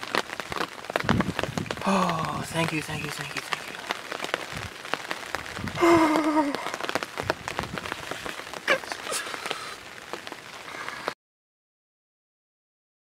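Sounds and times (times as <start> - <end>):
light rain pattering: 0.0 - 11.2.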